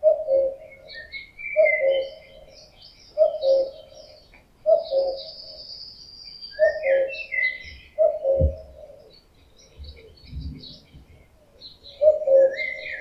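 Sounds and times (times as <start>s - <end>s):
cuckoo calling: 0.0s - 13.0s
songbirds chirping and trilling: 0.0s - 13.0s.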